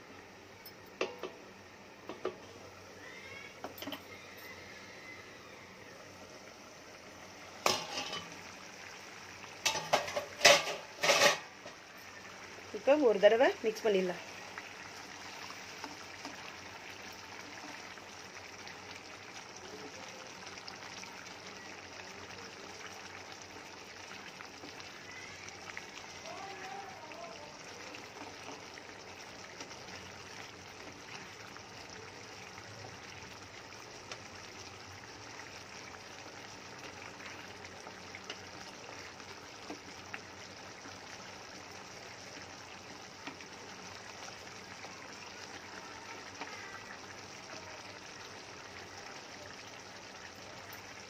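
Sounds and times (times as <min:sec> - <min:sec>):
curry bubbling and sizzling: 0:00.0 - 0:51.0.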